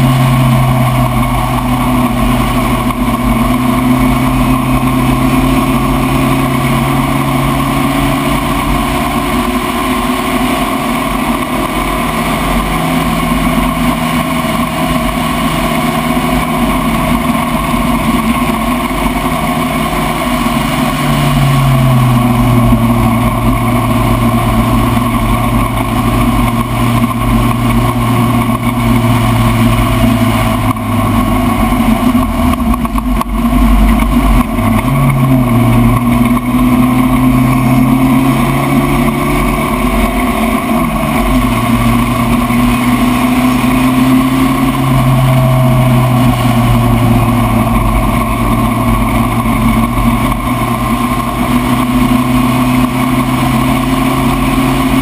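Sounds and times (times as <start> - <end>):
race car engine under load: 0.0 - 55.0
wind and road noise: 0.0 - 55.0.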